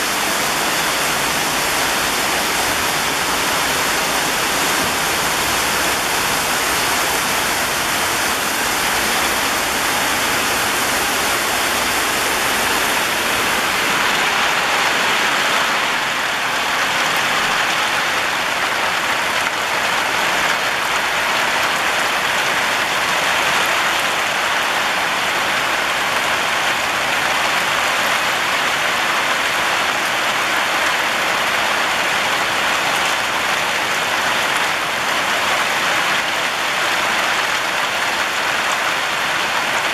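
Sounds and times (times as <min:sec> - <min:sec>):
heavy rain on tile roof: 0:00.0 - 0:39.9.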